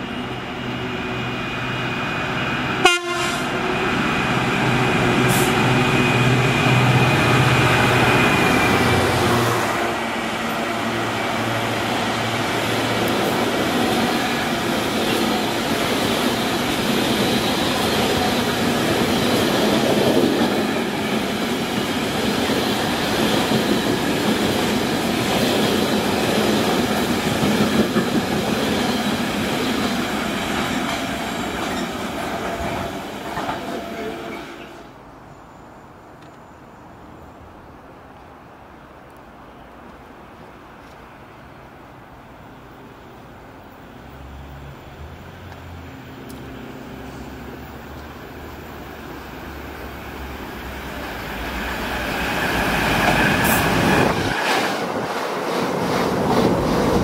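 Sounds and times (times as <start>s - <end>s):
diesel locomotive passing: 0.0s - 35.3s, 40.4s - 57.0s.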